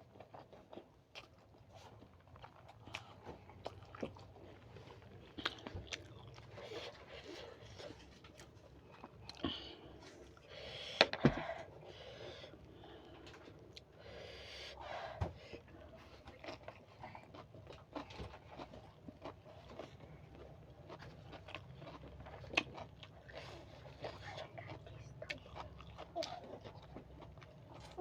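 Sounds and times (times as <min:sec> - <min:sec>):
person chewing: 0:00.0 - 0:10.5, 0:15.6 - 0:28.0.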